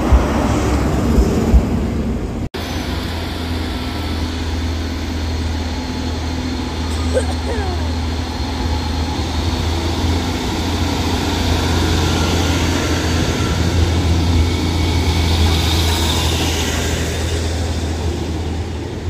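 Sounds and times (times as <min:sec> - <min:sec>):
train diesel engines droning: 0:00.0 - 0:19.0
train wheel and rail noise: 0:00.0 - 0:19.0.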